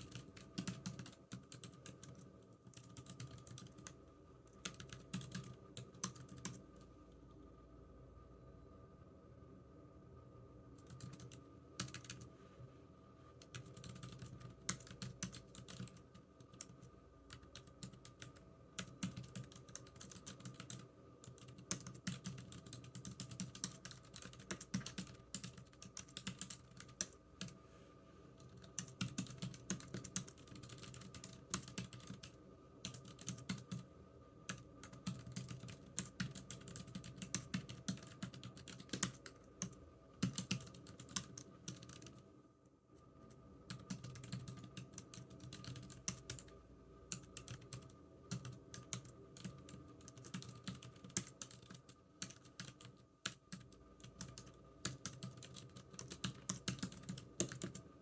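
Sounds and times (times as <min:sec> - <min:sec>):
keyboard typing: 0:00.0 - 0:06.6, 0:10.8 - 0:12.3, 0:13.4 - 0:27.6, 0:28.4 - 0:33.9, 0:34.5 - 0:42.2, 0:43.7 - 0:57.9.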